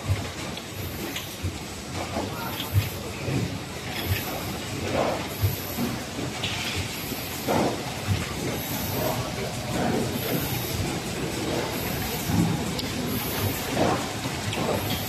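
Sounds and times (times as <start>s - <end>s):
packing machinery clatter: 0.0s - 15.0s.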